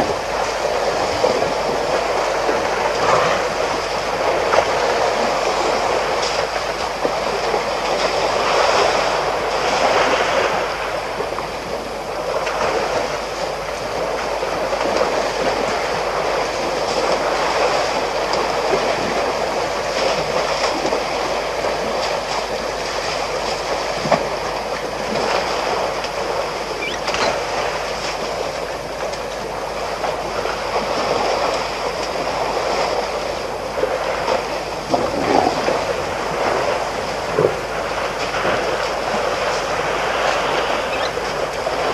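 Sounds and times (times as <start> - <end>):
elephants splashing in water: 0.0 - 41.9.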